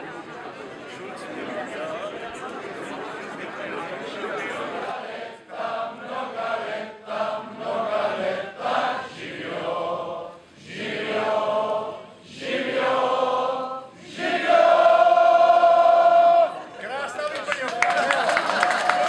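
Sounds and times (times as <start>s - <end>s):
crowd singing together: 0.0s - 16.7s.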